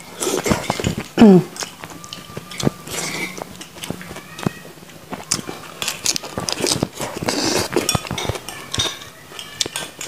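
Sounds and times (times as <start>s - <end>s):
crisp bites of lettuce: 0.0s - 8.9s
wet chewing: 0.0s - 10.0s.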